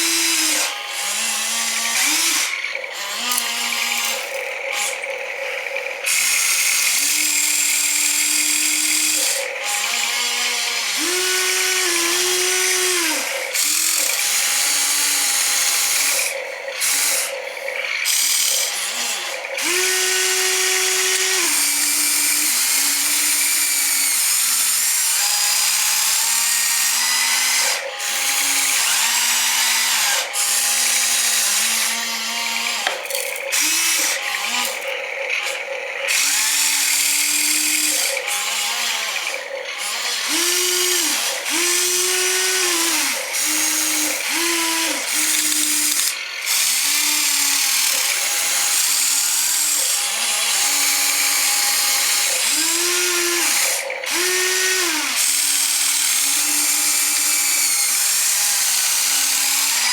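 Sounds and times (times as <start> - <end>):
toy electric motors whining: 0.0 - 59.9.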